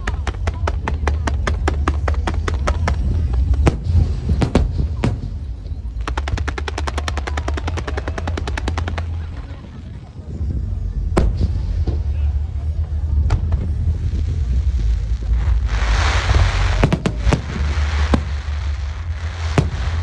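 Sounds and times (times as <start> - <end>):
firecrackers cracking: 0.0 - 10.2, 11.0 - 20.0
low rumble: 0.0 - 20.0.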